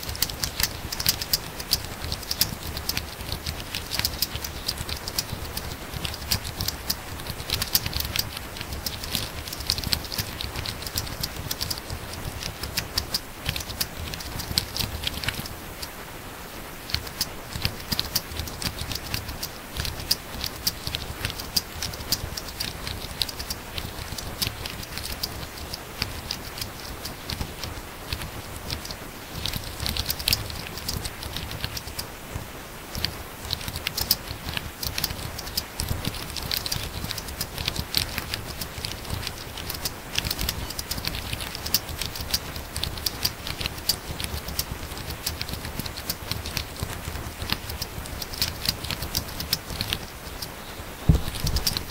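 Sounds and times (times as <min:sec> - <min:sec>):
laptop keyboard typing: 0:00.0 - 0:16.0, 0:16.9 - 0:32.2, 0:32.9 - 0:50.5, 0:51.1 - 0:51.9.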